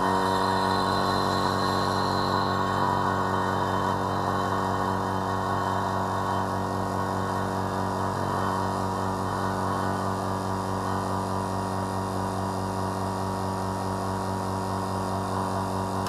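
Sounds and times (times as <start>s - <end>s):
vacuum pump humming: 0.0s - 16.0s.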